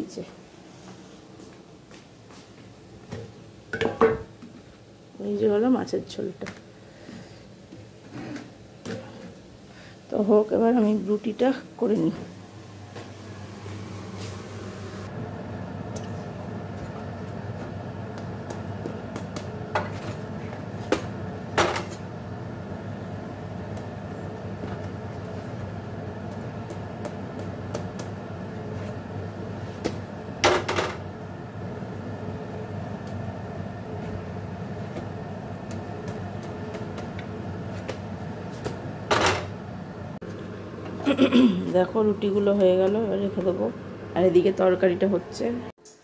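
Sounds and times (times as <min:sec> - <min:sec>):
steady low hum: 0:00.0 - 0:45.8.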